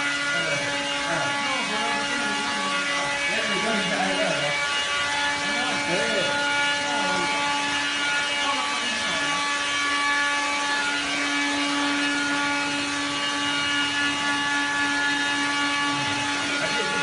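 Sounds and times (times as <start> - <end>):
motor whirring: 0.0 - 17.0.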